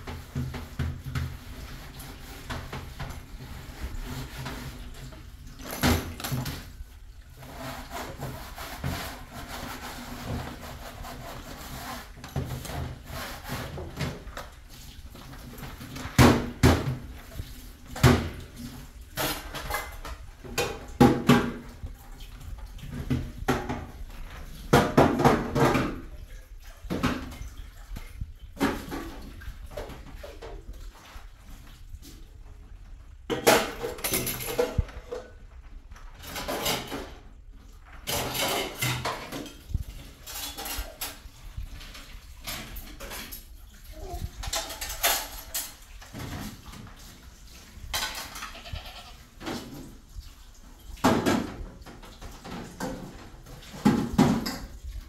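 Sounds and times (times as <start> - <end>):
pots and bowls clattering: 0.0 - 26.1, 33.3 - 35.5, 36.1 - 50.1, 51.0 - 55.0
water running and splashing: 0.0 - 55.0.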